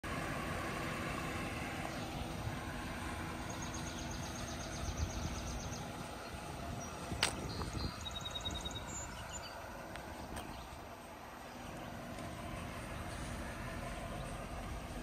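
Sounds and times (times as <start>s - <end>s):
outdoor rumble: 0.0s - 15.0s.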